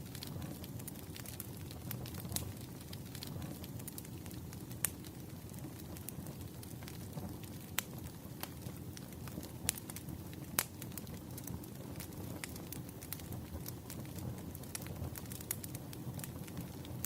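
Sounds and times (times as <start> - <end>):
firewood crackling: 0.0 - 17.0
low rumble of flames: 0.0 - 17.0
sharp pops of fire: 0.0 - 17.0.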